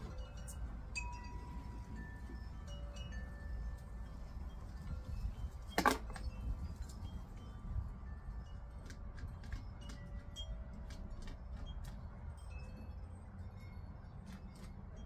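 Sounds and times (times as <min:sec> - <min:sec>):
wind chimes ringing: 0:00.0 - 0:15.0
wind rumble on microphone: 0:00.0 - 0:15.0.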